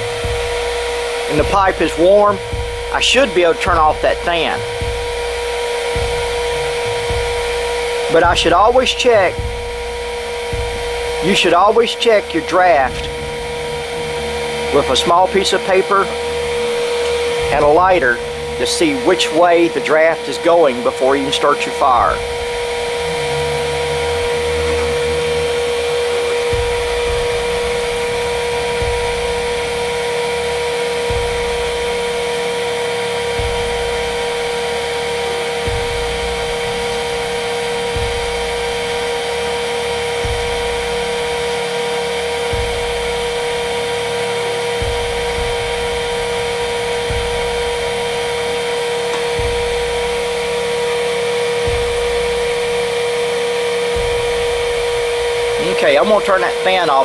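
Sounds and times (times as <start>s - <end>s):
electric vent fan whine: 0.0s - 57.0s.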